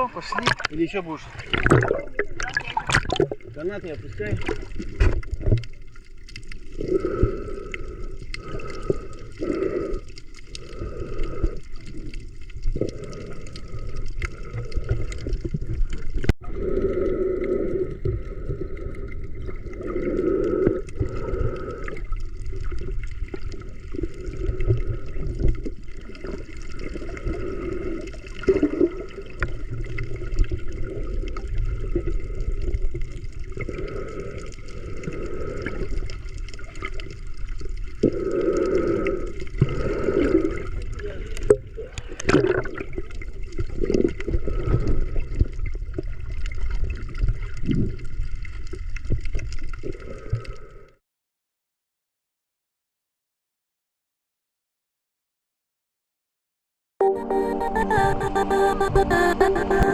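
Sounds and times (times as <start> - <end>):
sea water sloshing and gurgling: 0.0 - 51.0.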